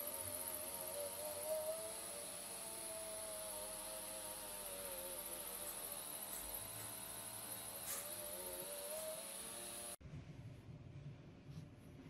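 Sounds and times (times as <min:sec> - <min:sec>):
machine hum with whine: 0:00.0 - 0:12.0.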